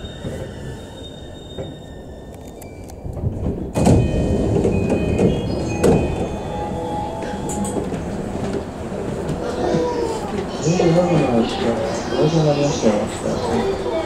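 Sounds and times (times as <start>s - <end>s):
train doors sliding open: 0.0s - 12.1s
train rumbling to a stop: 0.0s - 14.0s.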